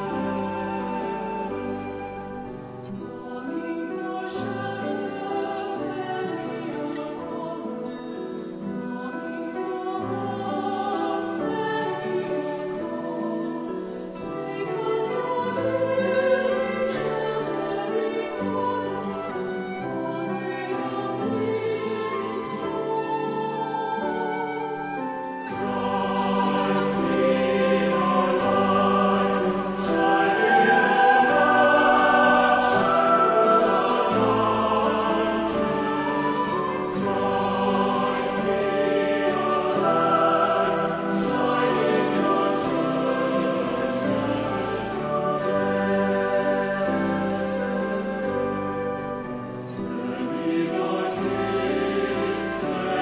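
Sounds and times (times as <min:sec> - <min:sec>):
classical music with sung voices: 0:00.0 - 0:53.0.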